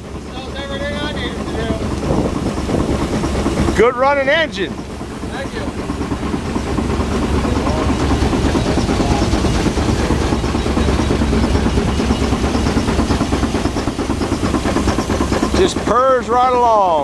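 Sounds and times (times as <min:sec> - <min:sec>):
steam traction engine clattering: 0:00.0 - 0:17.0.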